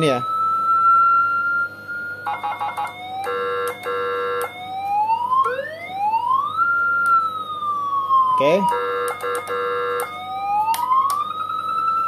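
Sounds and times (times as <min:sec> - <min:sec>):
electronic siren wail: 0:00.0 - 0:12.0
rapid buzzy siren burst: 0:00.0 - 0:12.0.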